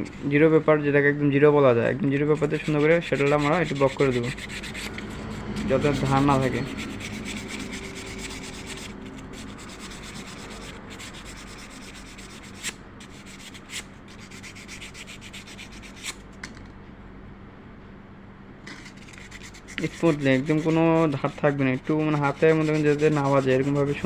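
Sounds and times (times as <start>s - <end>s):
sandpaper rubbing on metal: 2.2s - 16.2s, 18.7s - 24.0s.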